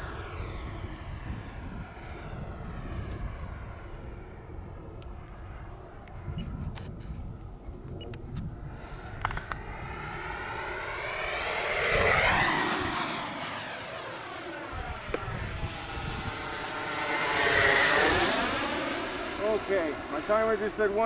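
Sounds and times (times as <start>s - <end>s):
electric model jet whining past: 0.0s - 21.0s.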